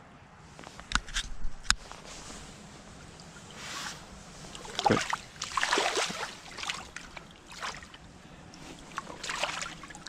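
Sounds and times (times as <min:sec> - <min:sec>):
water splashing and sloshing: 0:01.9 - 0:10.0.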